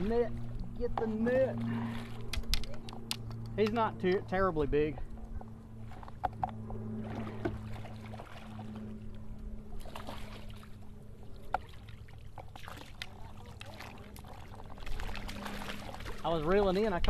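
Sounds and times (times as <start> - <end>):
water sloshing and splashing: 0.0 - 3.4, 5.1 - 17.0
steady low hum: 0.0 - 17.0.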